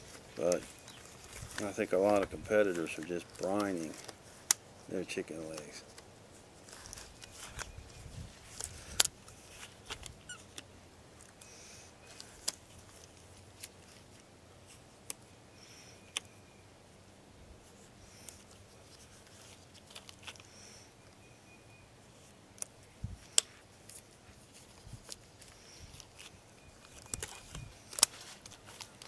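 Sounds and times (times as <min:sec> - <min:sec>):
rustling of disposable gloves: 0:00.0 - 0:15.0, 0:17.6 - 0:21.2, 0:22.0 - 0:29.0.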